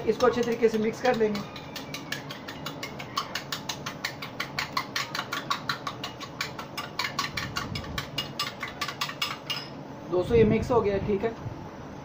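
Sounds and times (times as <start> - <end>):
utensil clicking against bowl: 0.0 - 9.7.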